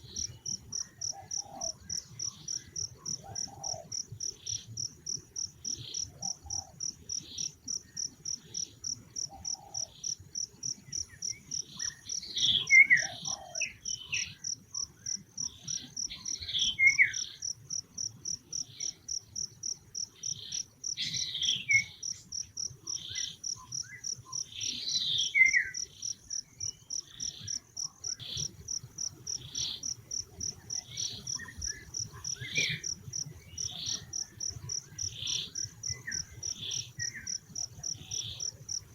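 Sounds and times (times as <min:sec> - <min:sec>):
insects chirping in pulses: 0:00.0 - 0:38.9.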